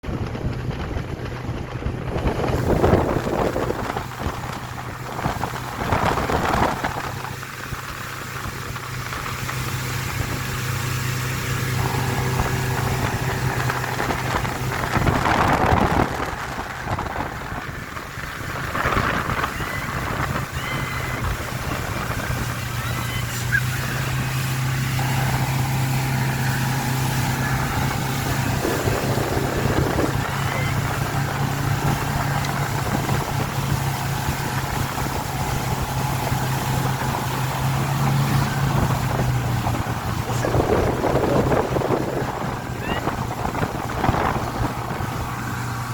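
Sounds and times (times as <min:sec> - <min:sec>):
gusts of wind or water: 0:00.0 - 0:45.9
small boat motor humming: 0:00.0 - 0:45.9.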